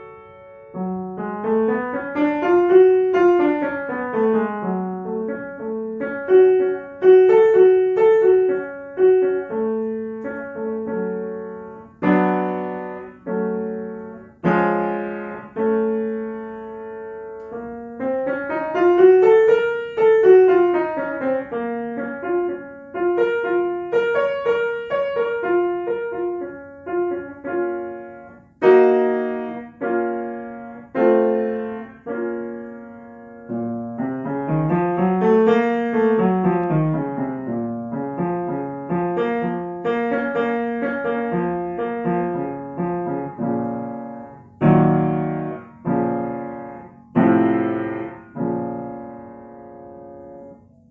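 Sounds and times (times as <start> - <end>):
upright piano playing scales: 0.0 - 50.9.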